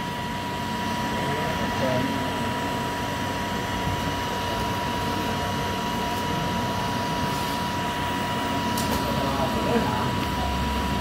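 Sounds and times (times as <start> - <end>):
machine hum with whine: 0.0 - 11.0.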